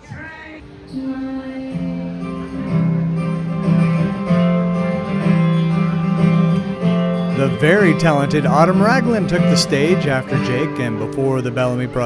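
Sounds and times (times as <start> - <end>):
guitar music: 0.7 - 12.0.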